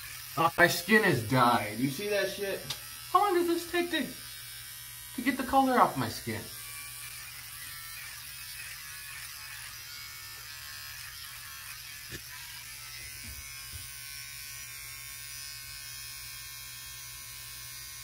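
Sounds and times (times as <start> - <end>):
electric clippers buzzing: 0.0 - 18.0.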